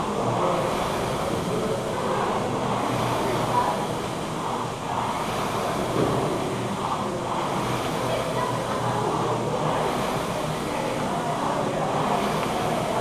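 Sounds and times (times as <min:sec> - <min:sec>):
rowing machine fan whooshing: 0:00.0 - 0:13.0.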